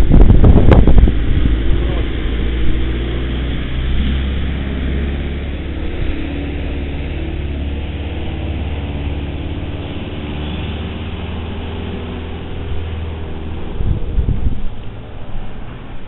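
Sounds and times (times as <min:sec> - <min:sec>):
heavy rain hiss: 0:00.0 - 0:16.0
vehicle engine idling: 0:00.0 - 0:16.0.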